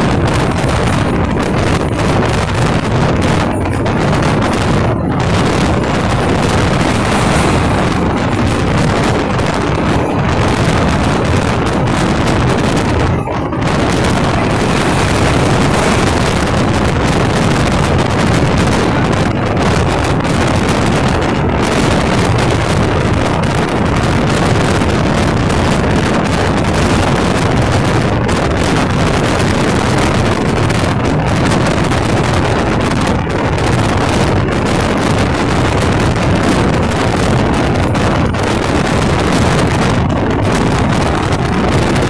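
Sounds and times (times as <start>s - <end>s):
moving train running noise: 0.0s - 42.0s
wind buffeting microphone: 0.0s - 42.0s.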